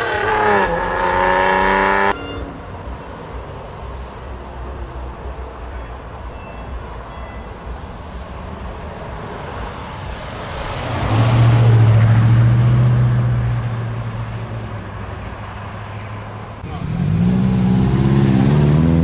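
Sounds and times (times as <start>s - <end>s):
background traffic noise: 0.0s - 19.0s
car driving past: 0.0s - 19.0s.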